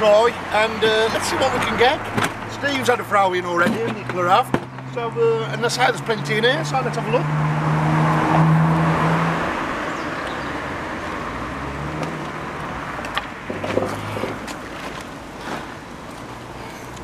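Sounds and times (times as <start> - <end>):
car passing: 0.0 - 17.0
traffic hum: 0.0 - 17.0.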